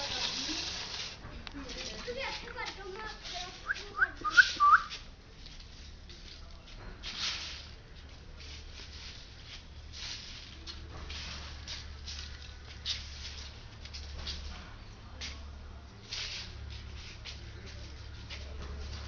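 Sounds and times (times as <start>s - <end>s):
scuffling and rustling: 0.0s - 19.0s.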